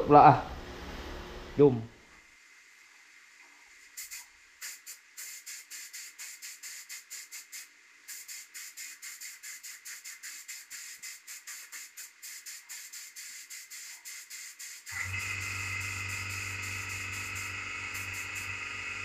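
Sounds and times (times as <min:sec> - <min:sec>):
spray gun hissing in bursts: 0:02.5 - 0:19.0.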